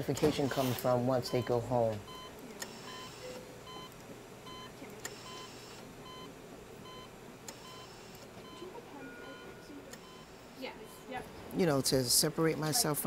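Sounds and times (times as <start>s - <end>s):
monitor beeping: 0.0s - 11.7s.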